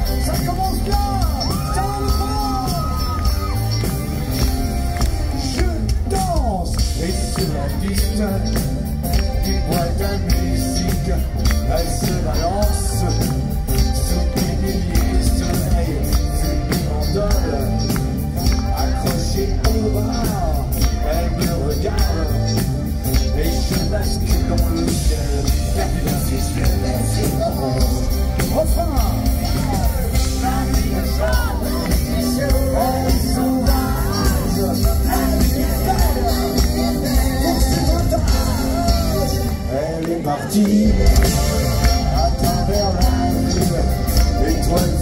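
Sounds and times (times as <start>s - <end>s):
jingling percussion: 0.0s - 45.0s
live pop-rock band: 0.0s - 45.0s.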